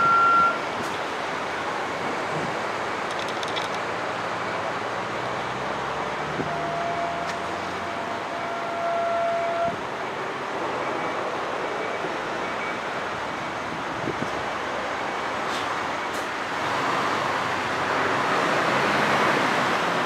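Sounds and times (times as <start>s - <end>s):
distant traffic: 0.0s - 20.0s
town noise: 0.0s - 20.0s.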